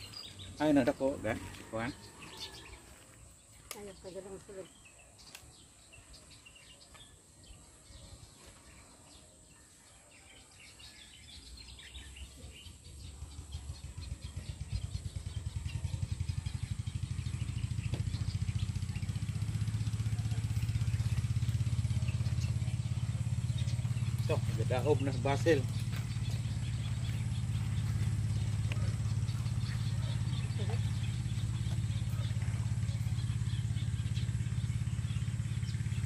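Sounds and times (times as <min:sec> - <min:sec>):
small engine drone: 0:00.0 - 0:36.0.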